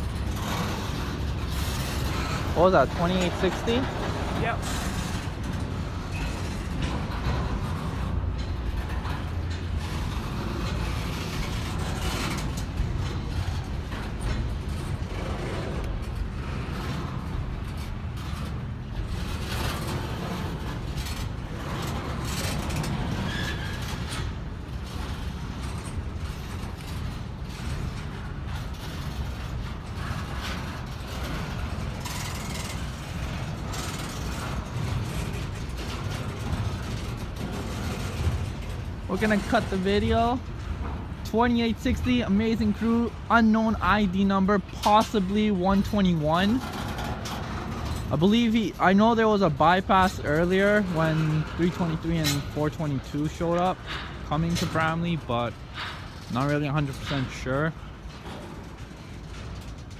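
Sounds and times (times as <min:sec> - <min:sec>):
freight train rumble: 0:00.0 - 0:59.9
wheels and couplers clanking: 0:00.0 - 0:59.9.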